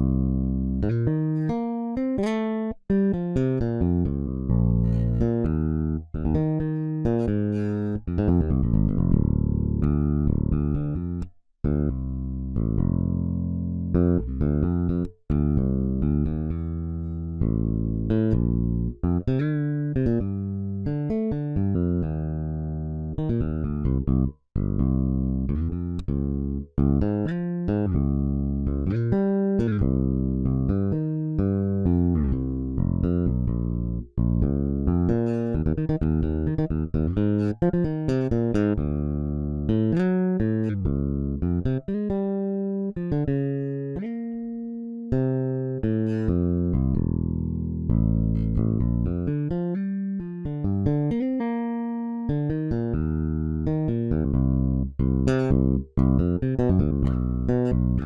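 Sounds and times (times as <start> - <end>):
electric bass guitar: 0.0 - 58.0.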